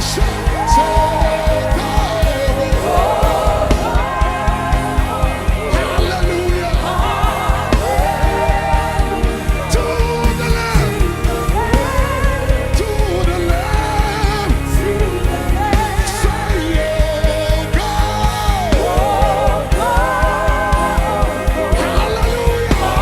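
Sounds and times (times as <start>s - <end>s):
band with steady beat: 0.0s - 23.0s
person singing with vibrato: 0.0s - 23.0s.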